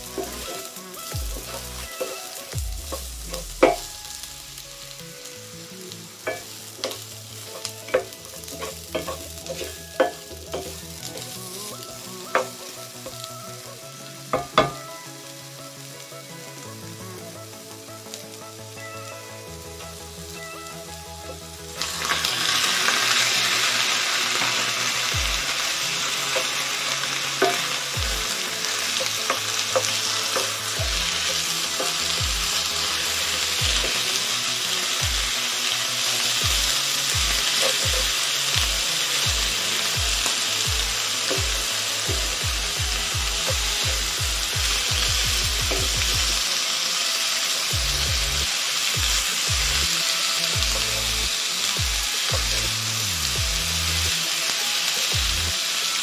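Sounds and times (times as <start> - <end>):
chicken sizzling loudly: 0.0 - 56.0
vegetables sizzling: 0.0 - 56.0.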